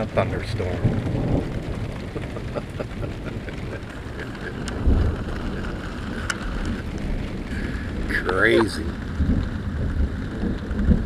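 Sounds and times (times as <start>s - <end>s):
steady rain: 0.0s - 11.0s
thunder rumble: 0.0s - 11.0s.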